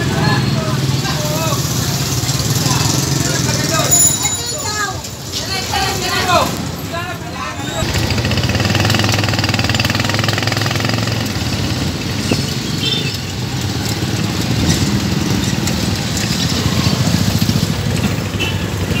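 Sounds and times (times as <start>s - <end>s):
small motorcycle engines running: 0.0s - 5.0s, 7.7s - 19.0s.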